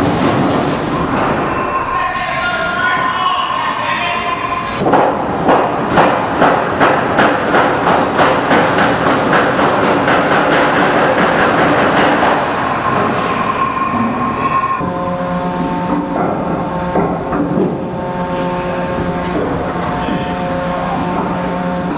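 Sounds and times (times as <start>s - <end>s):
machinery hum: 0.0s - 21.9s.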